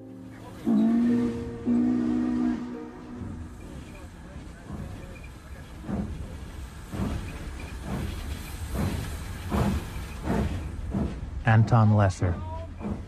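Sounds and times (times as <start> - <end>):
train running: 0.0 - 13.0.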